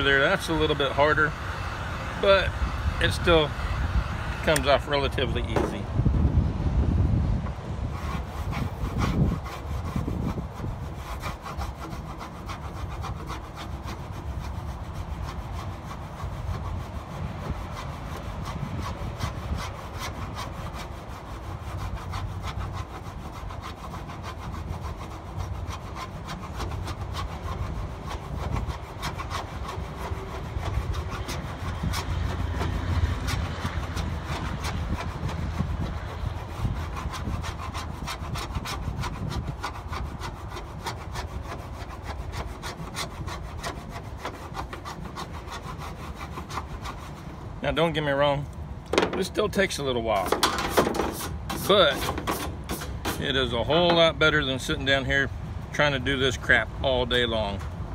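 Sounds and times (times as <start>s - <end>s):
plastic scraper scratching steel sheet: 0.0s - 1.3s, 4.4s - 5.8s, 7.9s - 54.8s.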